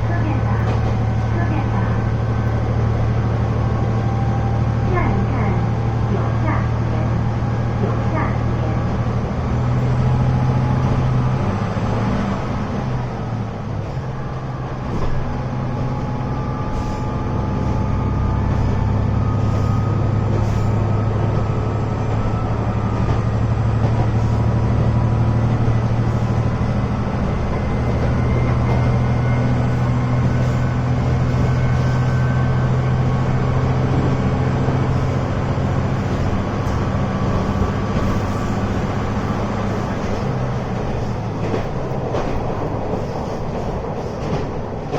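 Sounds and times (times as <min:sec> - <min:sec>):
rail and wheel noise: 0:00.0 - 0:44.9
railcar engine drone: 0:00.0 - 0:44.9.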